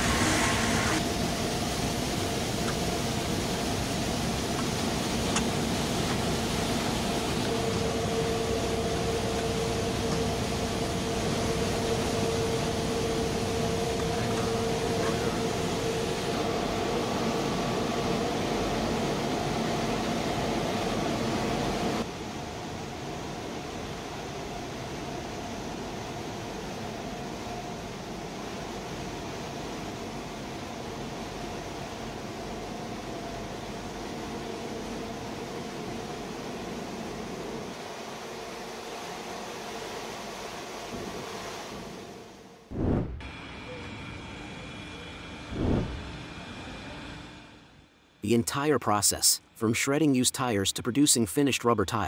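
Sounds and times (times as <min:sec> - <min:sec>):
workshop machinery drone: 0:00.0 - 0:52.0.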